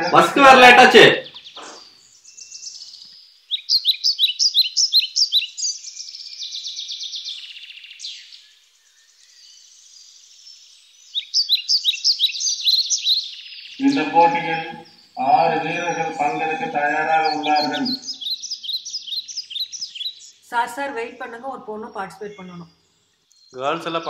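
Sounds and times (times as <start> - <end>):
songbird chirping: 0.0 - 24.0
faint bird twittering: 1.2 - 24.0.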